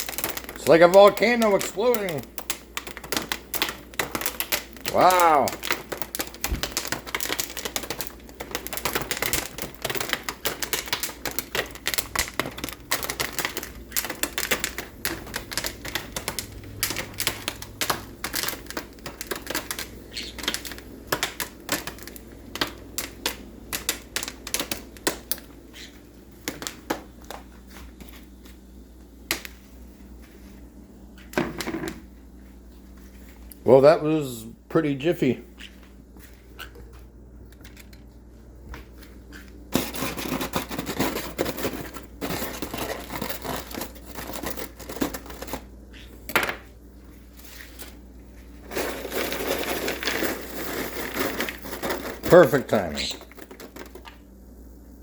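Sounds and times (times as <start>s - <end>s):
popcorn popping: 0.0s - 32.3s, 33.5s - 55.0s.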